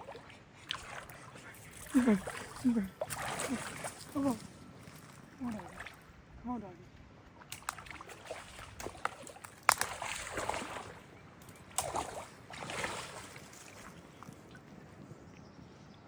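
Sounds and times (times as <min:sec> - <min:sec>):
water sloshing and splashing: 0:00.0 - 0:06.3, 0:07.2 - 0:15.3.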